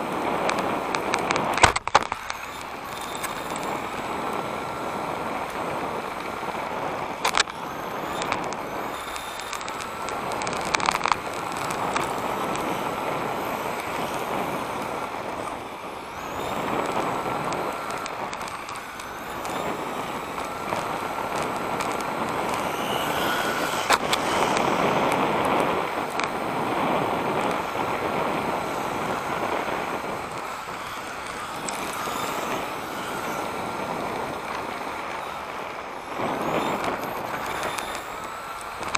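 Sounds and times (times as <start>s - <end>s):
faint high motor whine: 0.0s - 38.9s
sharp clicks from bumps: 0.0s - 38.9s
tyre and drivetrain noise rushing: 0.0s - 38.9s.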